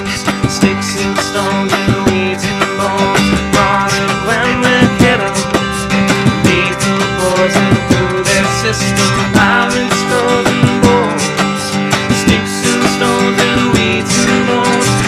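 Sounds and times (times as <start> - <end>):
guitar strumming: 0.0 - 15.0
live band instrumental music: 0.0 - 15.0
steady beat: 0.0 - 15.0.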